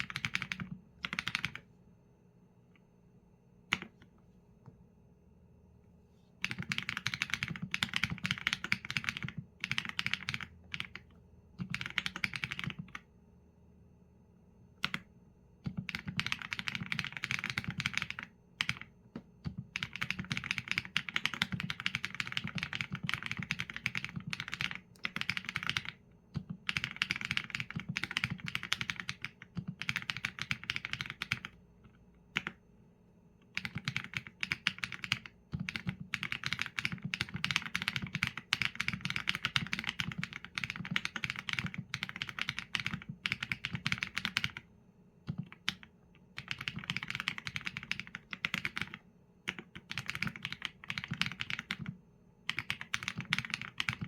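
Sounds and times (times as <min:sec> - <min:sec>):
mechanical keyboard typing: 0:00.0 - 0:01.6, 0:06.4 - 0:13.0, 0:14.8 - 0:32.6, 0:33.4 - 0:44.6, 0:45.2 - 0:54.0.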